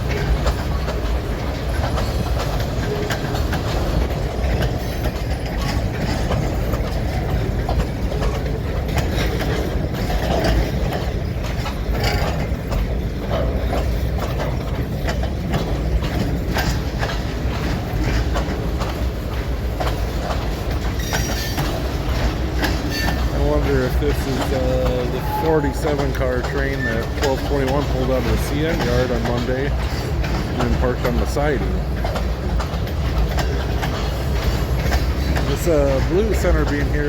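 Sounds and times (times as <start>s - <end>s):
freight train rumbling past: 0.0s - 37.0s
wheels clanking over rail joints: 0.0s - 37.0s.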